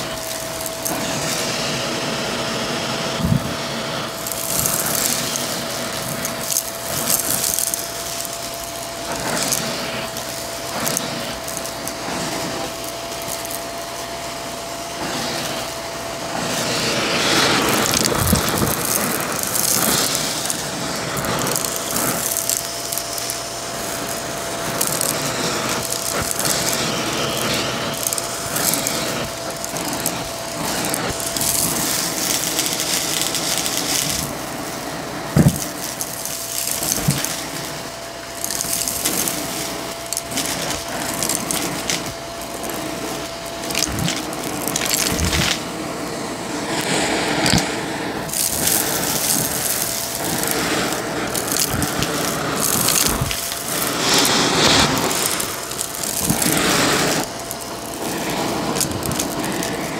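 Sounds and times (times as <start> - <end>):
debris rattling through vacuum: 0.0 - 59.9
vacuum cleaner motor whine: 0.0 - 59.9.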